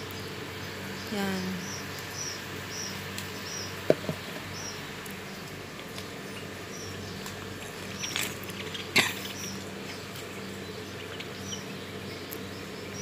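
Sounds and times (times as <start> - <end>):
small bird chirping: 0.0 - 13.0
steady low hum: 0.0 - 13.0.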